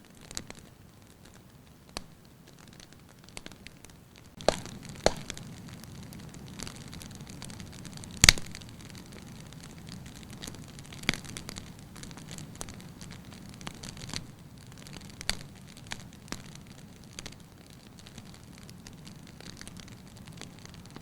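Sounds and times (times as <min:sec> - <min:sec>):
firewood crackling: 0:00.0 - 0:21.0
sharp pops of fire: 0:00.0 - 0:21.0.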